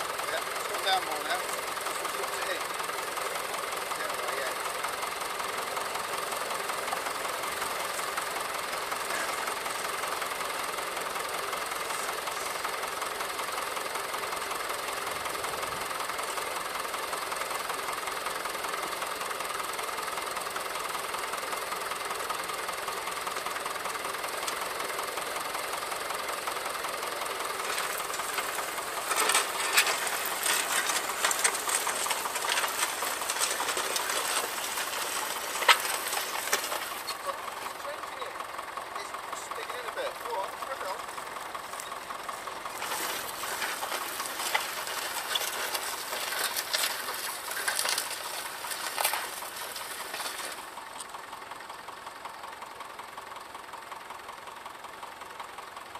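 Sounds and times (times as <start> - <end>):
tractor clattering and crackling: 0.0 - 55.9
tractor engine idling: 0.0 - 55.9.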